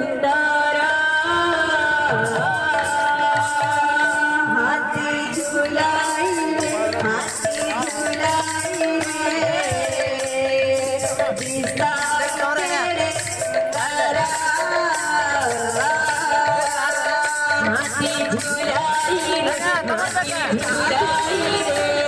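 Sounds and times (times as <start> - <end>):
jingling clappers or cymbals: 2.2 - 22.0.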